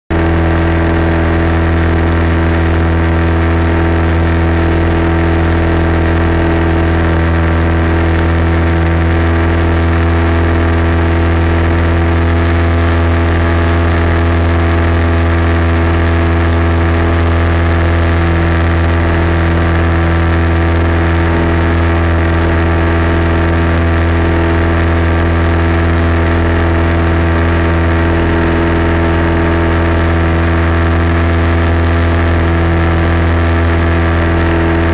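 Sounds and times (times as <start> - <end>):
light aircraft engine drone: 0.1 - 34.9.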